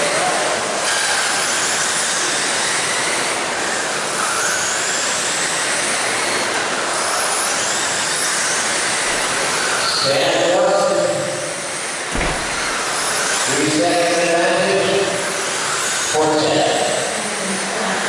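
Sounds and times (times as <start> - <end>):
high motor whines: 0.0 - 18.0.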